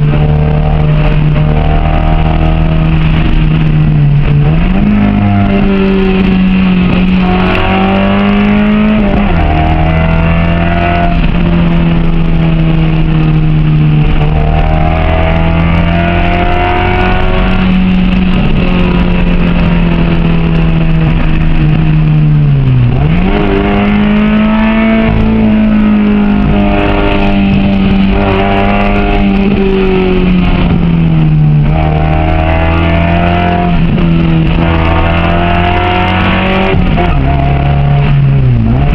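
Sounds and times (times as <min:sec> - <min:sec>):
engine running at high revs: 0:00.0 - 0:38.9.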